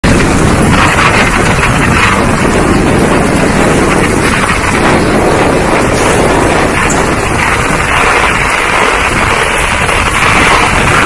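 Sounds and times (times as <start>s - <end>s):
heavy rain pouring: 0.0s - 11.0s
wind buffeting microphone: 0.0s - 11.0s.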